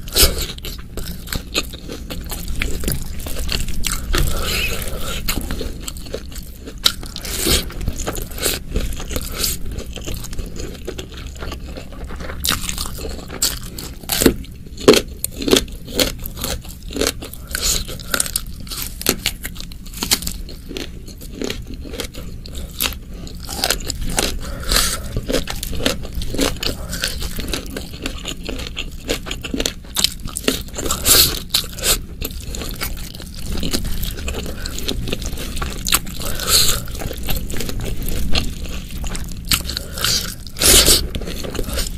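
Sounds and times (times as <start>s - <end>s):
close chewing of rice: 0.0s - 41.9s.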